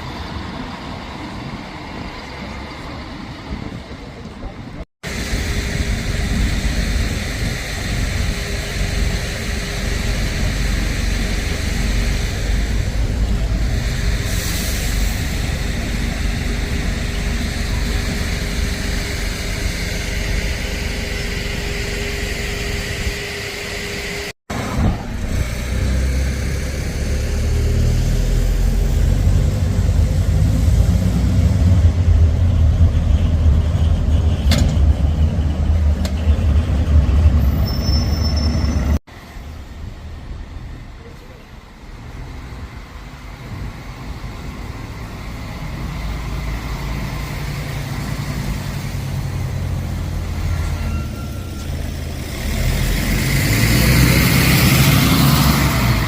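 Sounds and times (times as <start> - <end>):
road traffic: 0.0 - 56.0
diesel engine pulling away: 5.1 - 56.0.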